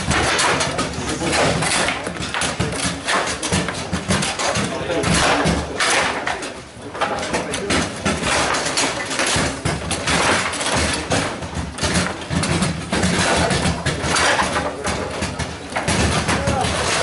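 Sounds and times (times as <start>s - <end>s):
metal rods clacking: 0.0s - 17.0s.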